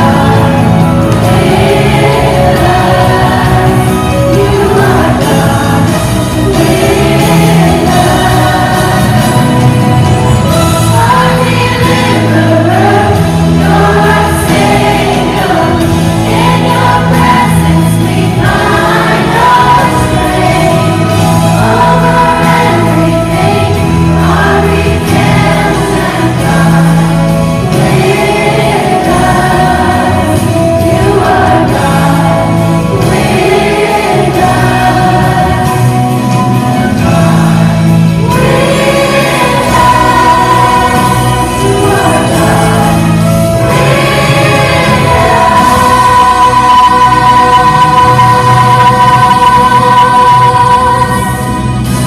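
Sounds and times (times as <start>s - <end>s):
held bass notes: 0.0s - 52.0s
large choir singing: 0.0s - 52.0s.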